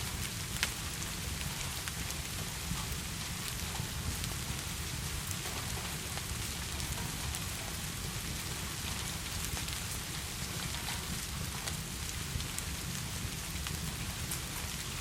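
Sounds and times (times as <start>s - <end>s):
heavy rain: 0.0s - 15.0s
raindrops ticking: 0.0s - 15.0s.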